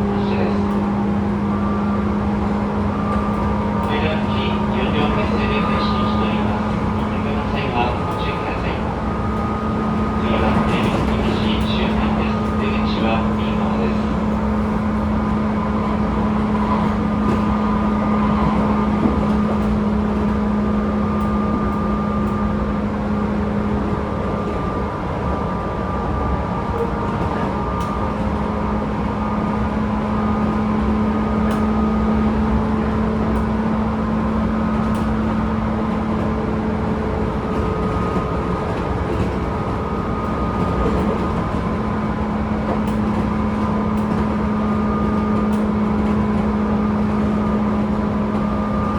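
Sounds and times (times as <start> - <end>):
train low hum: 0.0 - 48.9.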